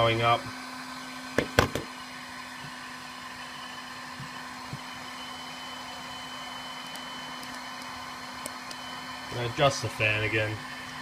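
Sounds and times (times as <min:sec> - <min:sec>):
heat gun blowing whir: 0:00.0 - 0:11.0.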